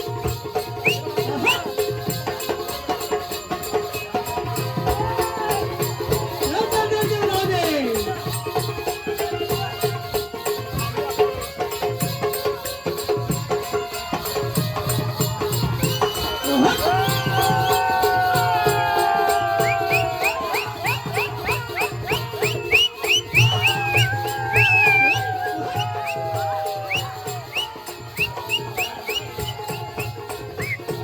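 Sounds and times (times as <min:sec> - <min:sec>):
drum beats: 0:00.0 - 0:31.0
fast high folk melody: 0:00.0 - 0:31.0
jingling rattling percussion: 0:00.0 - 0:31.0.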